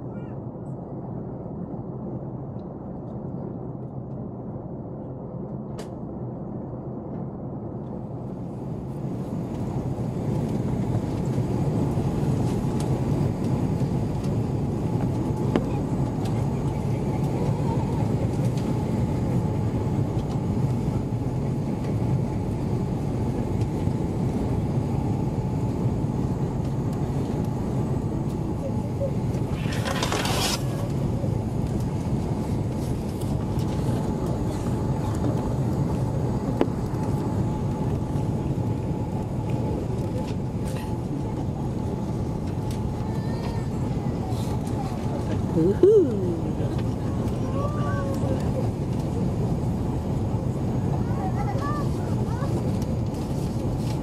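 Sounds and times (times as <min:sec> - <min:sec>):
jet airliner cabin noise: 0:00.0 - 0:54.0.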